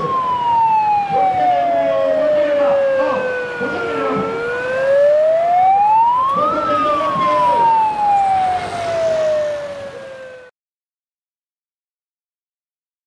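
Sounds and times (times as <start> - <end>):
siren wailing: 0.0 - 10.5.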